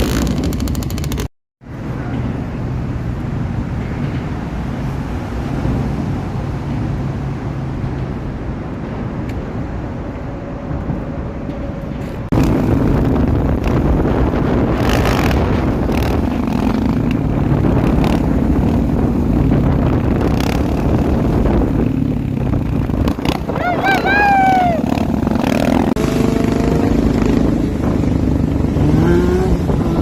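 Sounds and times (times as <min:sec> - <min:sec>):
wind on microphone: 0:03.8 - 0:30.0.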